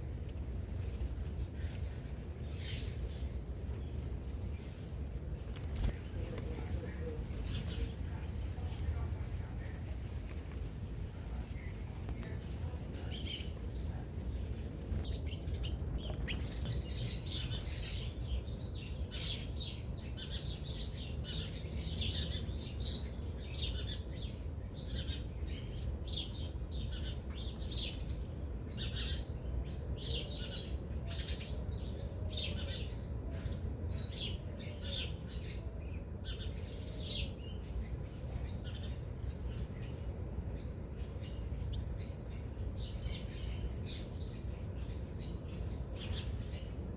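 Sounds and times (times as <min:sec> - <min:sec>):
small birds chirping: 0:00.0 - 0:46.9
steady low rumble: 0:00.0 - 0:46.9.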